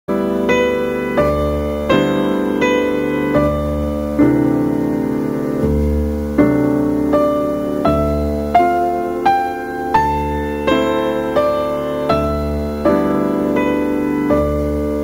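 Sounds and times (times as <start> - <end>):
slow piano chords: 0.1 - 15.0.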